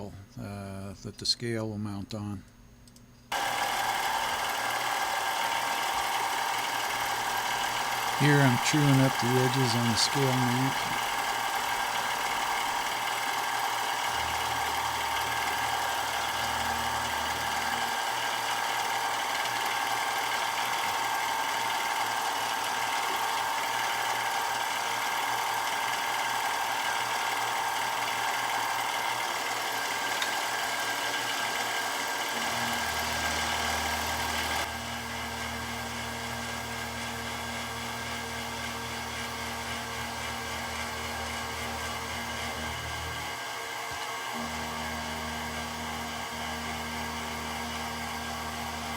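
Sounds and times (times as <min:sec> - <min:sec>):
machine tool whine: 0:03.3 - 0:48.9.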